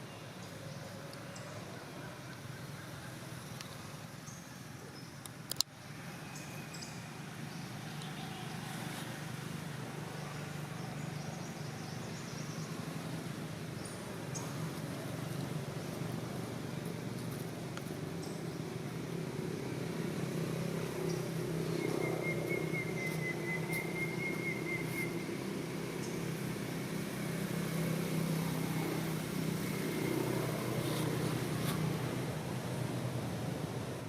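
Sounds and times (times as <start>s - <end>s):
outdoor background hum: 0.0s - 34.0s.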